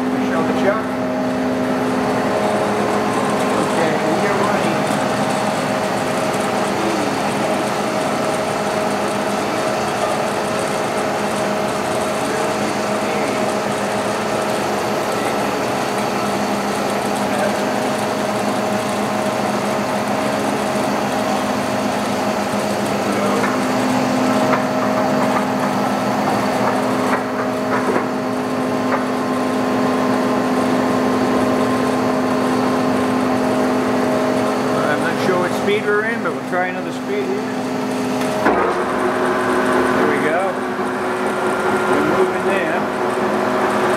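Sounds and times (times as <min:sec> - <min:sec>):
lathe humming with gear whine: 0:00.0 - 0:43.9.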